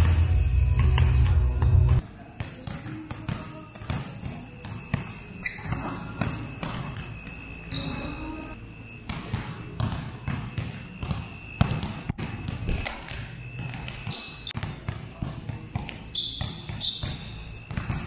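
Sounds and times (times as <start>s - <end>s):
basketballs bouncing on court floor: 0.0s - 8.2s, 9.1s - 18.0s.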